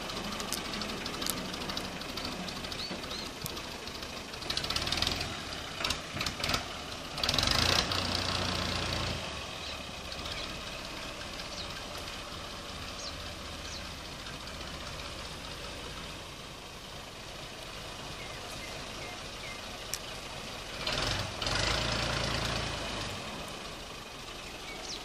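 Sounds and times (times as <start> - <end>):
tractor diesel engine: 0.0 - 25.0.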